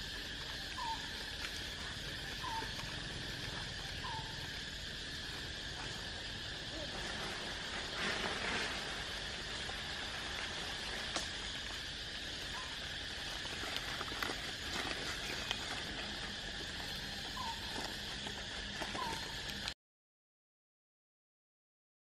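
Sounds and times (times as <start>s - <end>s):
insect buzz: 0.0s - 19.8s.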